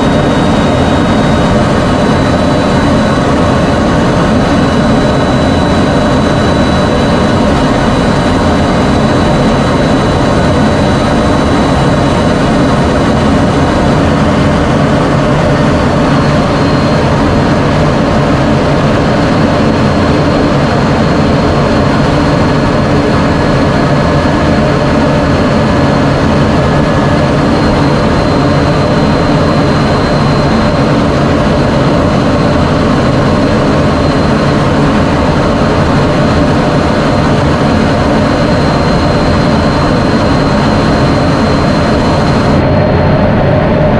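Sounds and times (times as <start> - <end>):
jet engine running: 0.0 - 43.9.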